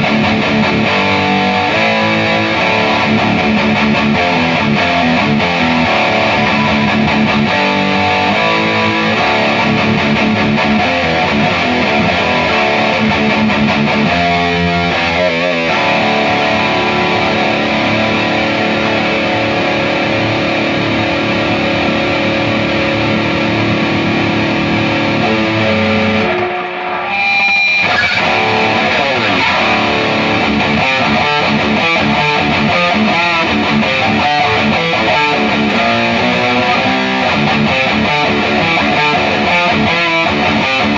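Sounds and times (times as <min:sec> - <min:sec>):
distorted electric guitar riffing: 0:00.0 - 0:40.9.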